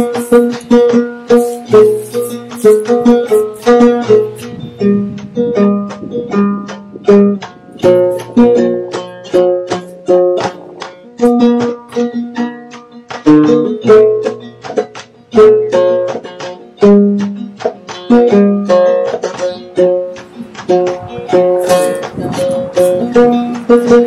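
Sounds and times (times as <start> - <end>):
plucked string instrument melody: 0.0 - 24.0.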